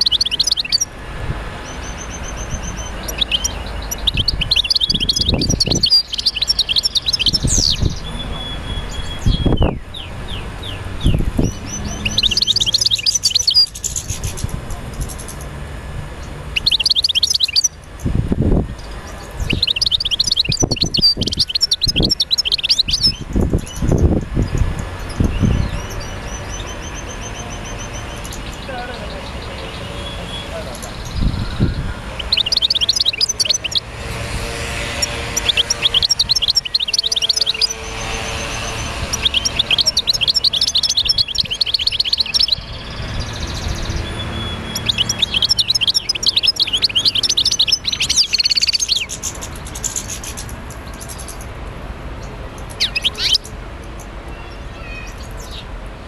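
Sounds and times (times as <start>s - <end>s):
bird chirping: 0.0s - 15.6s, 16.2s - 51.5s, 52.2s - 55.7s.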